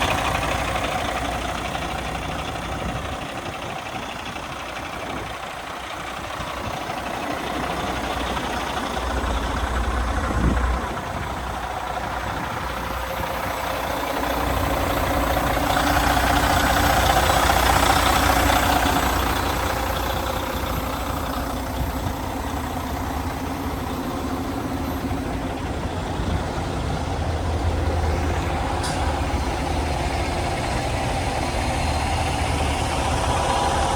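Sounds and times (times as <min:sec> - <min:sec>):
truck diesel engine idling: 0:00.0 - 0:33.9.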